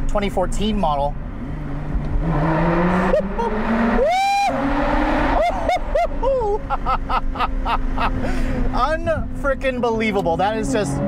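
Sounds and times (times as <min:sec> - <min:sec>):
car engine accelerating hard: 0:01.2 - 0:11.0.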